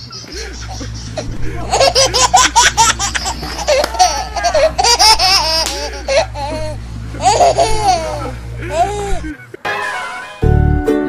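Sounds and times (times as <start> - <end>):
high-pitched laughter: 0.0 - 9.6
steady low hum: 0.0 - 9.6.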